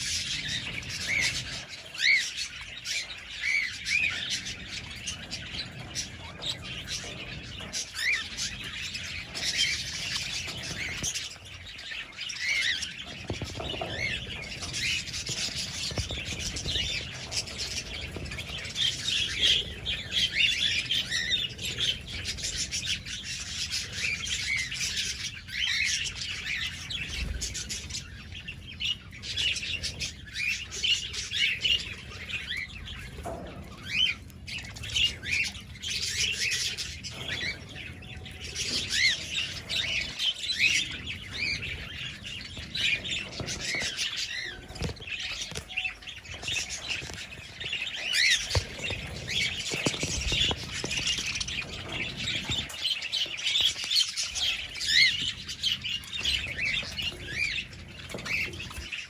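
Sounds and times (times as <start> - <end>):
flock of parakeets chattering: 0.0 - 59.0.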